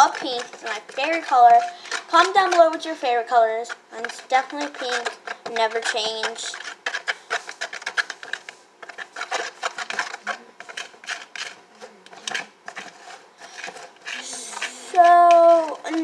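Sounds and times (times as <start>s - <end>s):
utensil scraping a bowl: 0.0s - 16.0s.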